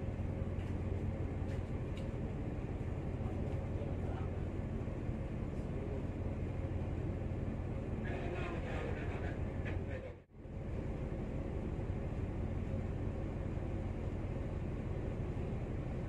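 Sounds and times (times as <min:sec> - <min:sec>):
low drone of ship machinery: 0:00.0 - 0:16.0.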